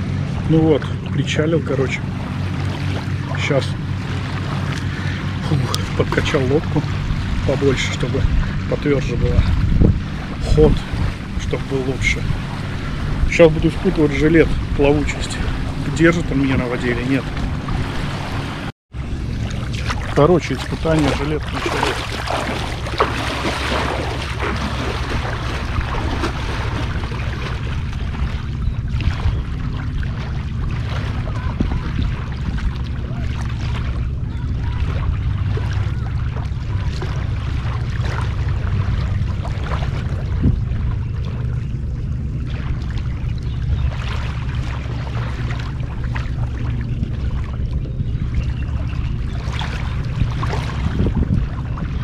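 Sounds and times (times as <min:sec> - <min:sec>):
water splashing and sloshing: 0:00.0 - 0:52.0
wind rumbling on microphone: 0:00.0 - 0:52.0.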